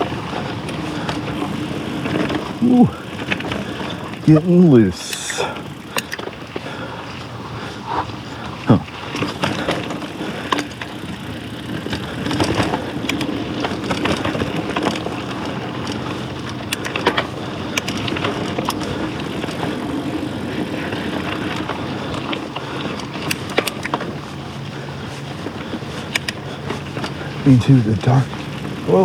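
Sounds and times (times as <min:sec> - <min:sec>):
bike clicks and rattles: 0:00.0 - 0:29.0
bike tyres rushing over dirt: 0:00.0 - 0:29.0.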